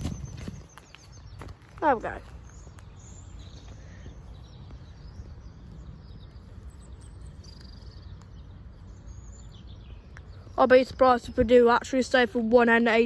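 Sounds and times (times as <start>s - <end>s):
small birds chirping faintly: 0.0s - 13.0s.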